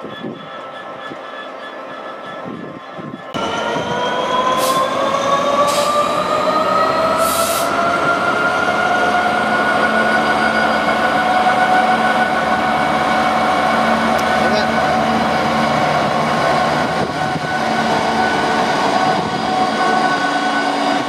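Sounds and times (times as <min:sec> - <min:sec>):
diesel locomotive passing: 0:00.0 - 0:21.0
rising engine whine: 0:00.0 - 0:21.0.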